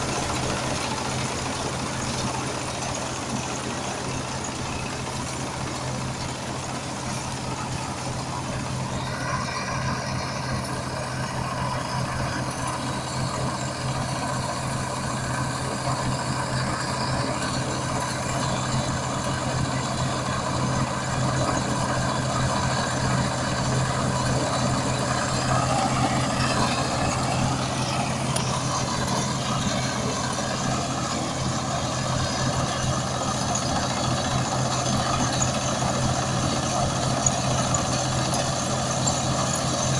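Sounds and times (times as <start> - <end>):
harvester engine running: 0.0 - 39.9
high mechanical whine: 0.0 - 39.9.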